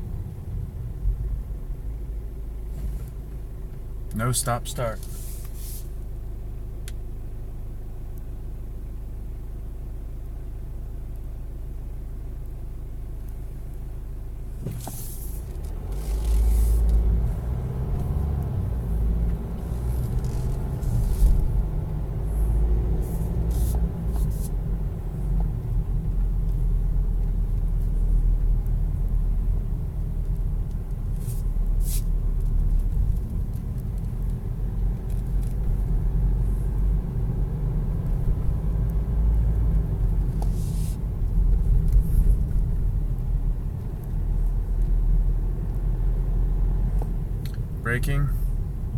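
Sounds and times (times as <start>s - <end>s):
car engine idling and pulling away: 0.0s - 48.9s
road noise: 0.0s - 48.9s.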